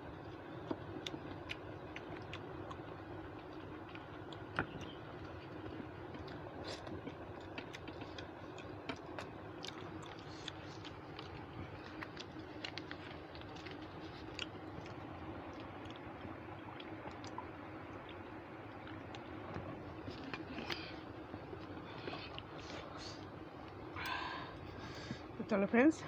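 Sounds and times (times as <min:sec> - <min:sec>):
steady low hum: 0:00.0 - 0:26.0
person chewing: 0:00.2 - 0:25.1.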